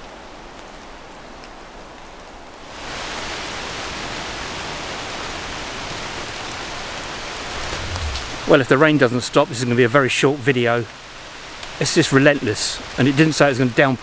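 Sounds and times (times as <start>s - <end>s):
heavy rain on leaves: 0.0s - 14.0s.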